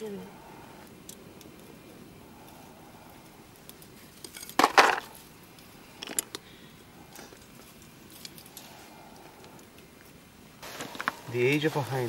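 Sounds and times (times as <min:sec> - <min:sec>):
low background hiss: 0:00.0 - 0:12.0
handling clicks and rustles: 0:00.9 - 0:06.5, 0:07.1 - 0:12.0.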